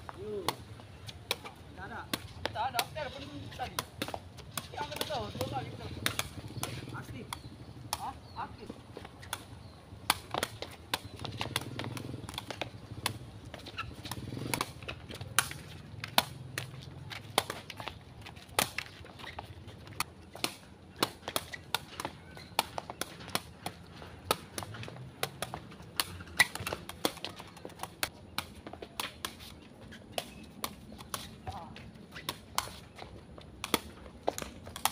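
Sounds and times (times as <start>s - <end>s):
ball slapping against body: 0.0s - 34.9s.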